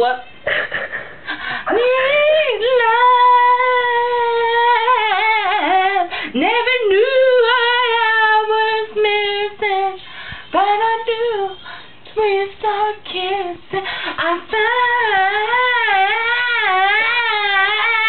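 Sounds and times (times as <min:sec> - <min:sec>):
woman singing unaccompanied: 0:01.6 - 0:18.0.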